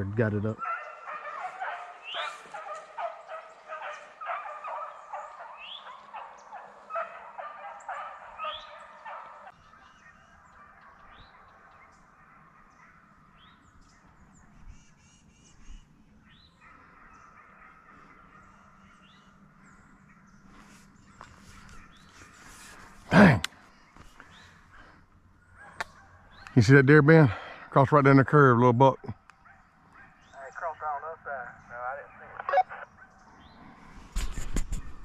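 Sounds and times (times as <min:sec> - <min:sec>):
hounds baying: 0:00.5 - 0:14.8, 0:15.9 - 0:33.8.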